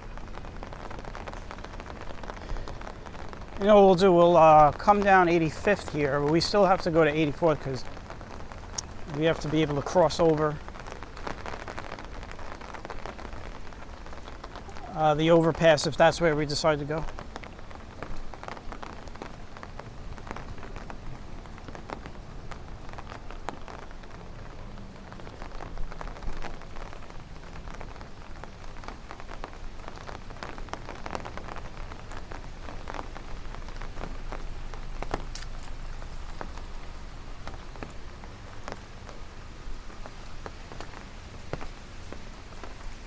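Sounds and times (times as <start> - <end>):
rain falling: 0.0 - 43.0
raindrops ticking close by: 0.0 - 43.0.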